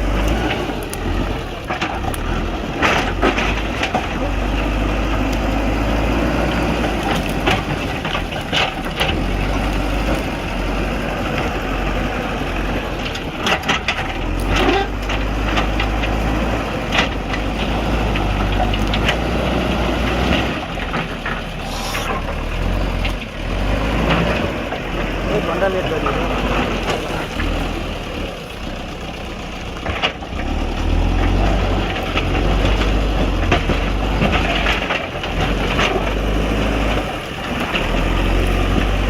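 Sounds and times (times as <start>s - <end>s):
diesel engine running under load: 0.0s - 39.0s
wood and roots cracking: 0.0s - 39.0s.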